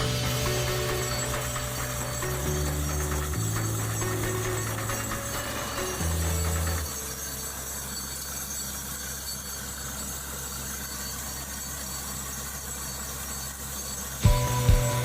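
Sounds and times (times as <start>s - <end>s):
rhythmic mechanical clatter: 0.0s - 15.0s.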